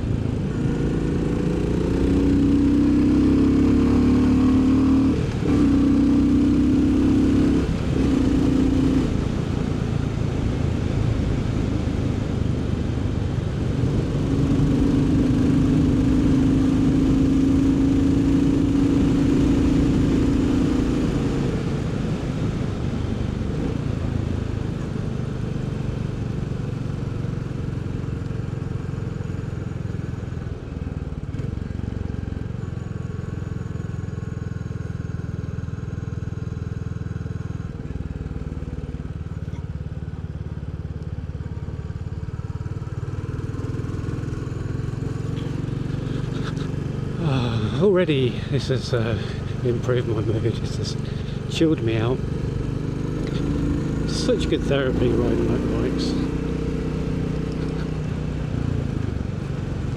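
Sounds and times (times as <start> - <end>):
motorcycle engine accelerating through gears: 0.0 - 59.9.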